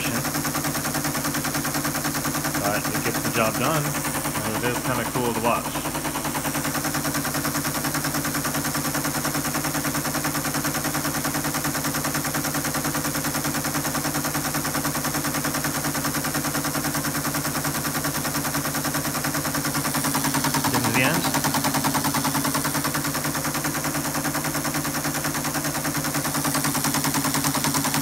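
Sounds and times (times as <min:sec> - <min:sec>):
motor hum: 0:00.0 - 0:28.0.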